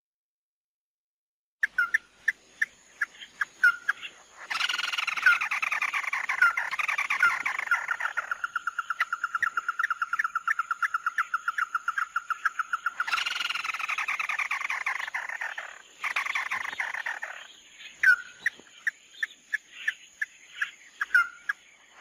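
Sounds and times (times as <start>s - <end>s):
bird chirping and trilling: 1.6s - 22.0s.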